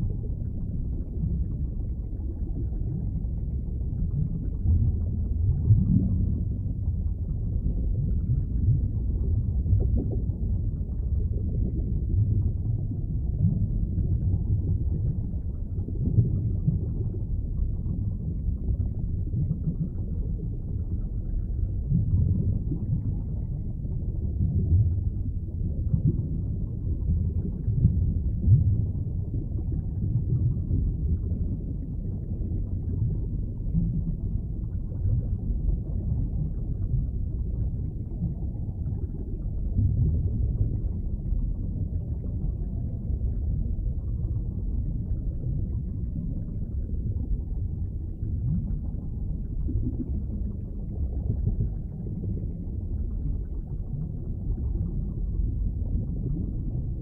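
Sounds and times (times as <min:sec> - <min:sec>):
muffled underwater rumble: 0:00.0 - 0:57.0.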